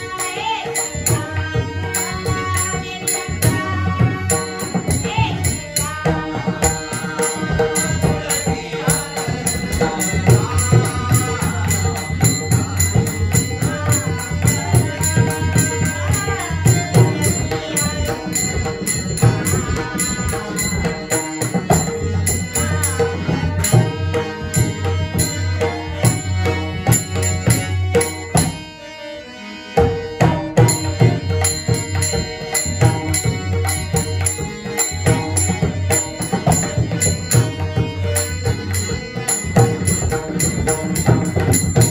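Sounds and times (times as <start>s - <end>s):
hand drum rhythm: 0.0s - 28.6s, 29.8s - 41.9s.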